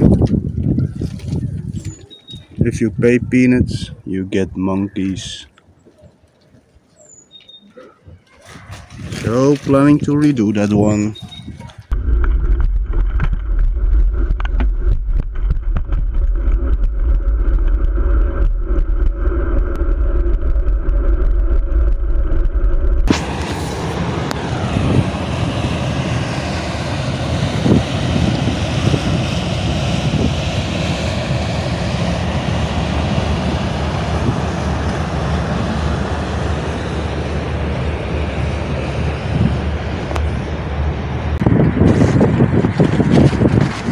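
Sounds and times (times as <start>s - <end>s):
wind on microphone: 0.0s - 4.3s, 8.0s - 43.9s
engine deep rumble: 8.2s - 43.9s.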